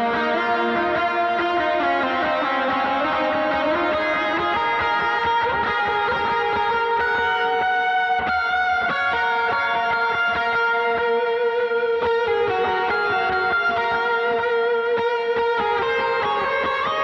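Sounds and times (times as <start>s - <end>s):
electric guitar solo with reverb: 0.0s - 17.0s.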